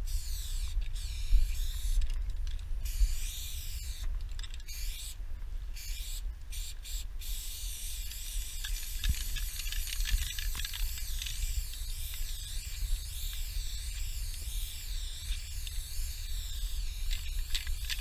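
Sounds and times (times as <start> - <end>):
spray can hissing: 0.1 - 2.0, 2.8 - 4.0, 5.8 - 18.0.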